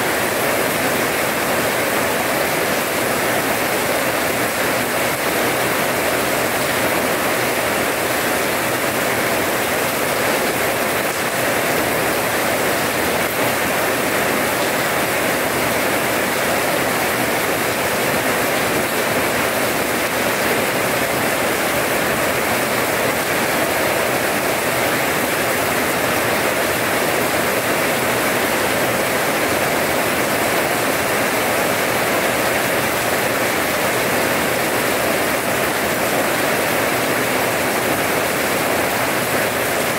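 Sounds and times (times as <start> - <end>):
rain splashing into puddles: 0.0 - 39.9.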